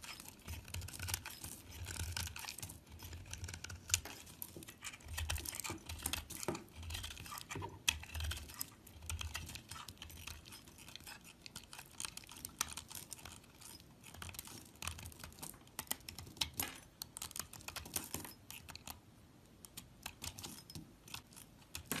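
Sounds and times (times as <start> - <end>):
knife cutting into soap: 0.0 - 18.9.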